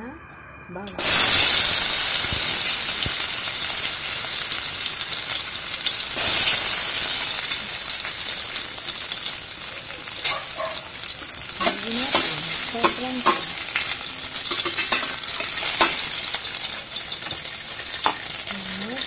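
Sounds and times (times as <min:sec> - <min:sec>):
garlic sizzling in hot oil: 0:00.9 - 0:19.0.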